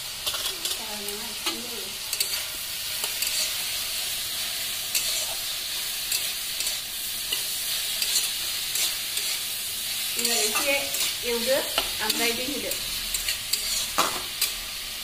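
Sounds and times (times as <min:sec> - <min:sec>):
vegetables sizzling in oil: 0:00.0 - 0:15.0
metal spatula scraping wok: 0:00.2 - 0:14.8.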